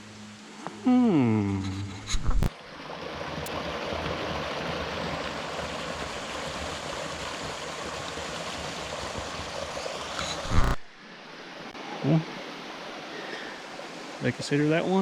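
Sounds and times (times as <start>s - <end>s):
creek water flowing over rocks: 0.0s - 15.0s.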